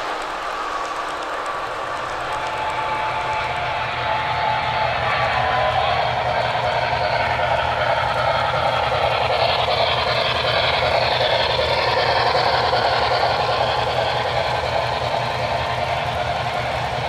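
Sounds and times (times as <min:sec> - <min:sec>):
model trains running: 0:00.0 - 0:17.0.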